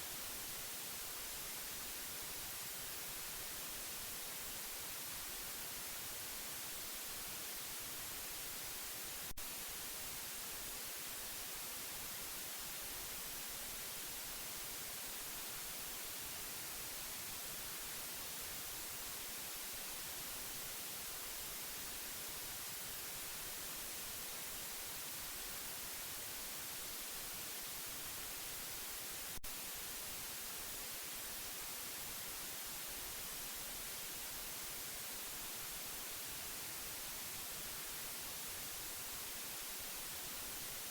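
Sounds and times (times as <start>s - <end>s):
steady white noise: 0.0s - 40.9s.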